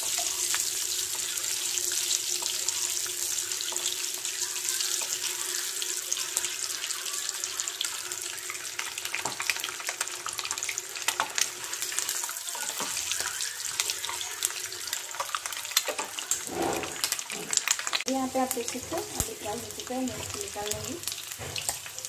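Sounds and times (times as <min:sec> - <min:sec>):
eggs sizzling in hot oil: 0:00.0 - 0:22.0
oil crackling and popping: 0:00.0 - 0:22.0.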